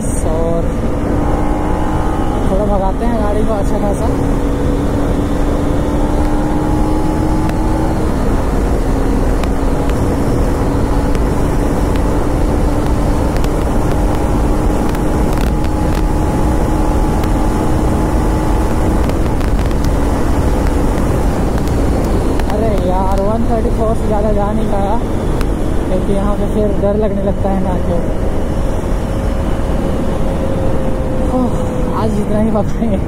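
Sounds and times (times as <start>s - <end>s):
wind rush over microphone: 0.0s - 33.0s.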